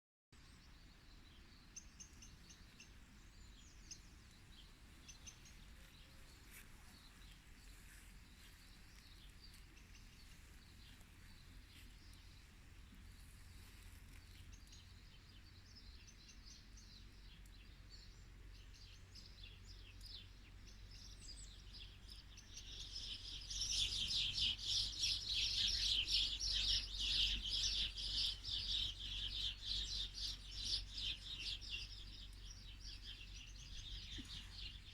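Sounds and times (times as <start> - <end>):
songbirds chirping: 0.4 - 34.9.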